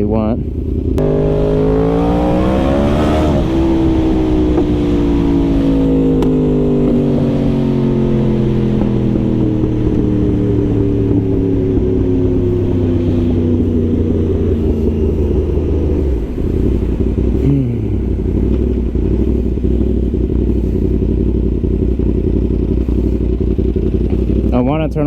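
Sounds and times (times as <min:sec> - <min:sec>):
motorcycle engine slowing: 0:00.0 - 0:25.0.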